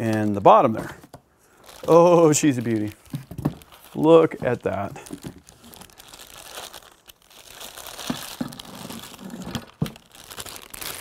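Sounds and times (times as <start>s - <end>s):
plastic bag crinkling: 1.5s - 11.0s.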